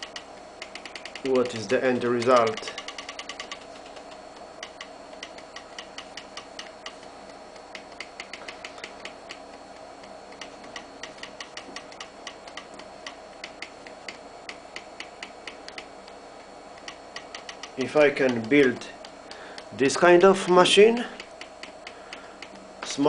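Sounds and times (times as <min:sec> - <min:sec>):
stepper motors ticking: 0:00.0 - 0:23.0.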